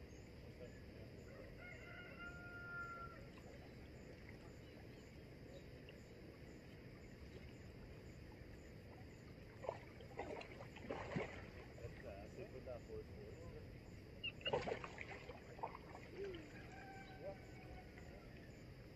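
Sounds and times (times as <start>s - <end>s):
faint outdoor background noise: 0.0s - 18.9s.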